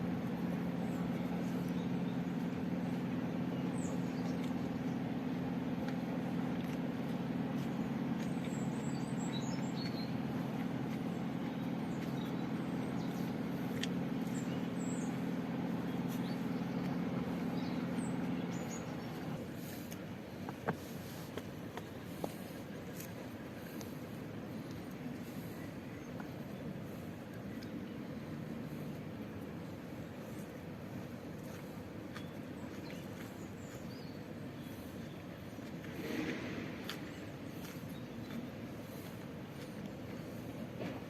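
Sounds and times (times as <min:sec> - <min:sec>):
low engine drone: 0:00.0 - 0:41.0
small birds chirping: 0:00.0 - 0:41.0.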